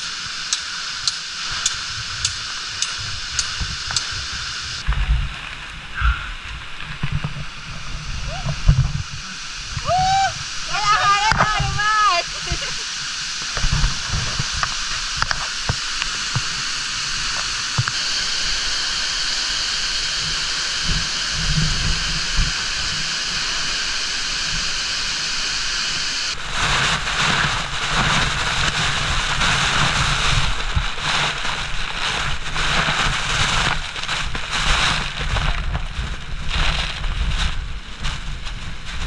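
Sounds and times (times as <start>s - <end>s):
stream and waterfall rushing: 0.0s - 4.9s, 5.7s - 36.1s.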